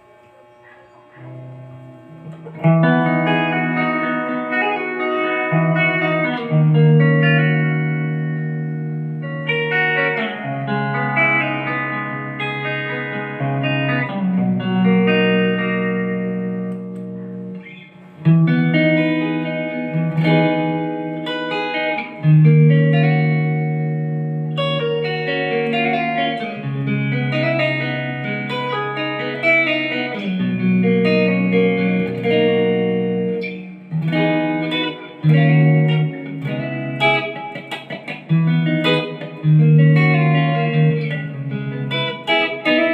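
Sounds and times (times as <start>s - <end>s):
electric guitar chords and notes: 0.0s - 42.9s.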